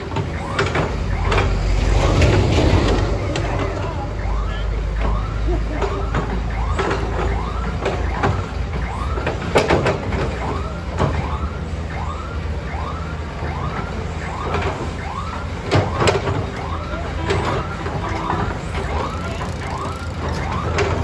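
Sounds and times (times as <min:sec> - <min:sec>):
diesel engine running: 0:00.0 - 0:12.2, 0:12.9 - 0:21.0
siren-like warning tone: 0:00.0 - 0:21.0.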